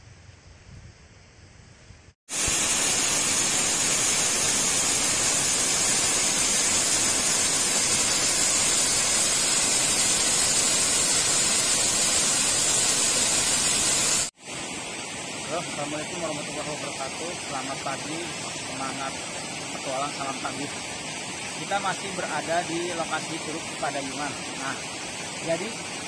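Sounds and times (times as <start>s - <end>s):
waterfall rushing onto rocks: 2.3s - 26.0s.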